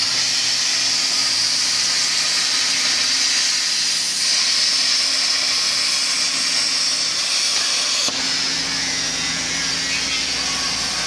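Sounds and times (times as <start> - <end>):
cutting torch hissing: 0.0 - 11.0
machine hum: 0.0 - 11.0.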